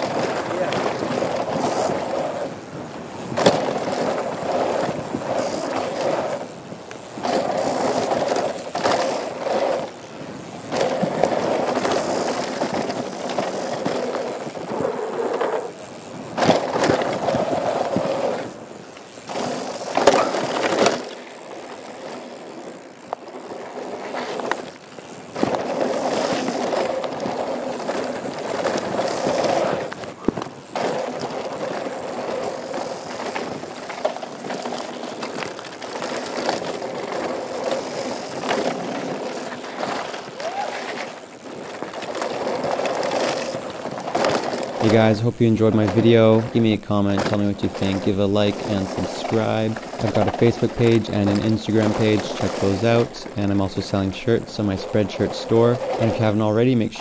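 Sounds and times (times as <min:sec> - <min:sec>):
bike rattling over ground: 0:00.0 - 0:57.0
bike tyres rolling on dirt: 0:00.0 - 0:57.0.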